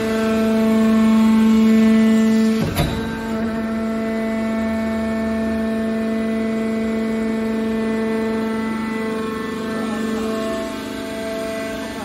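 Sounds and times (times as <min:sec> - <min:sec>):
hydraulic pump motor humming: 0:00.0 - 0:12.0.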